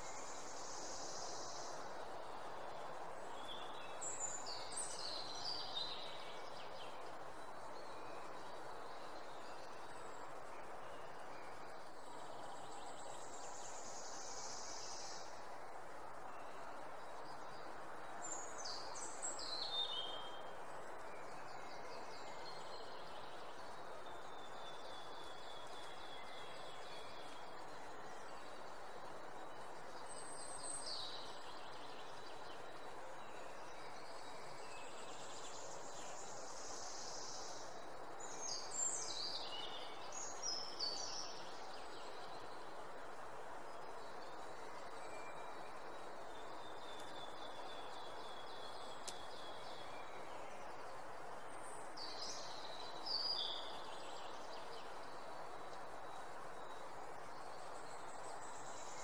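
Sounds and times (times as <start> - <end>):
songbirds singing: 0.0 - 59.0
steady background hiss: 0.0 - 59.0.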